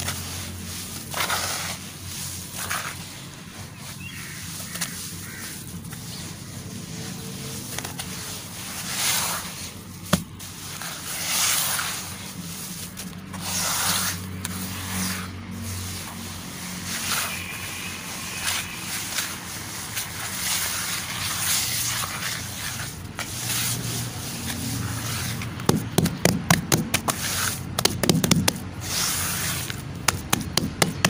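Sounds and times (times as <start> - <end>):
hands squishing wet charcoal: 0.0 - 31.0.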